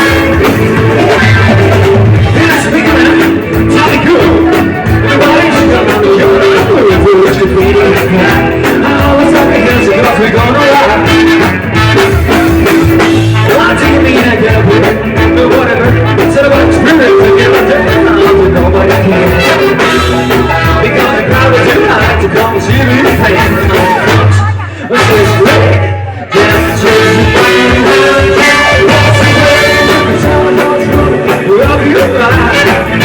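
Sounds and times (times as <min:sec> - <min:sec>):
live band playing amplified music: 0:00.0 - 0:33.0.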